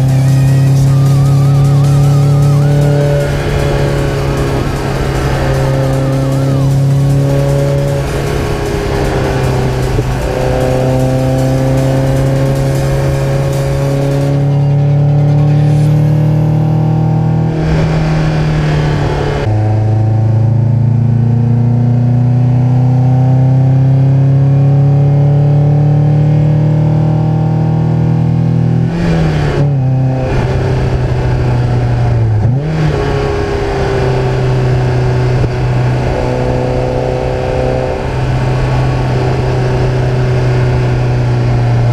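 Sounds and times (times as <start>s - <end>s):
car engine exhaust note: 0.0s - 41.9s.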